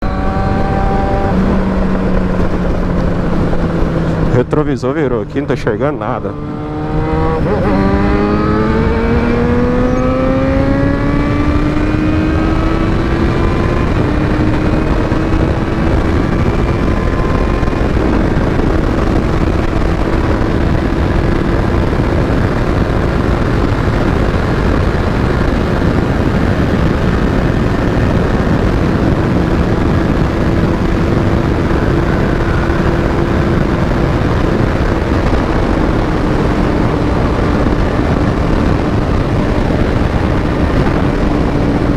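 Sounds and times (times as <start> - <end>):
motorcycle engine at high revs: 0.0 - 41.9
wind noise: 0.0 - 41.9.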